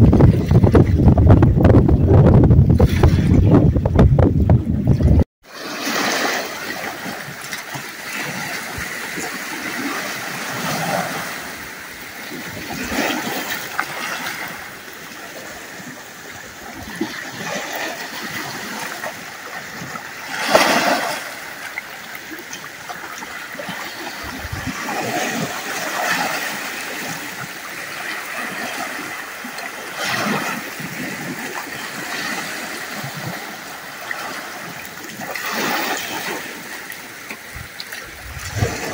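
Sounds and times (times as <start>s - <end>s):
small waves splashing: 4.8s - 38.9s.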